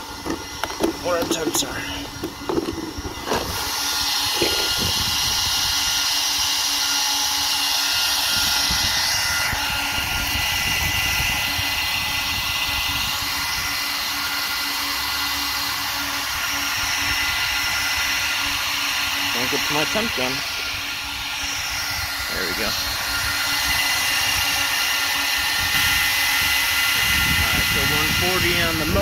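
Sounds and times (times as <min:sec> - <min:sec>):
small cooling fans whirring: 0:00.0 - 0:29.0.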